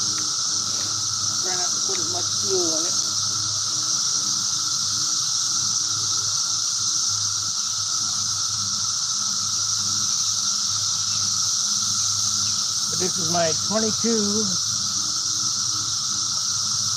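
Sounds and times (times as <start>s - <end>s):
high-pitched hiss: 0.0s - 16.9s.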